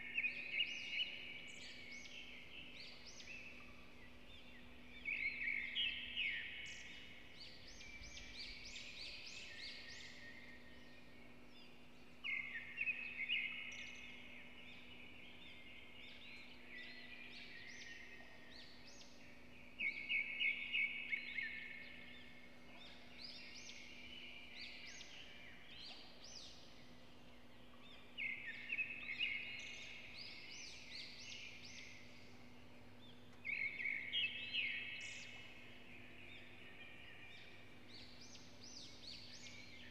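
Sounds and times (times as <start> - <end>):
faint steady hum: 0.0 - 39.9
songbird chirps and trills: 0.0 - 39.9.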